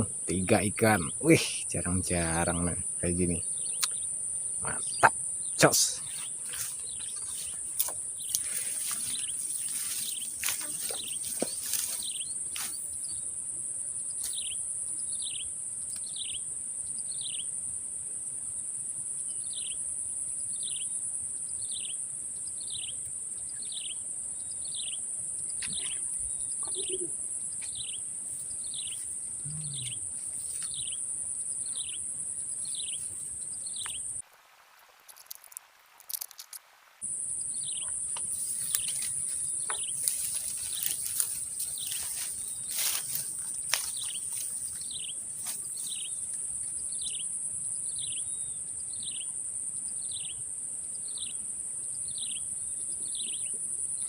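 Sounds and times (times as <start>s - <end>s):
insect chorus drone: 0.0s - 34.2s, 35.1s - 54.0s.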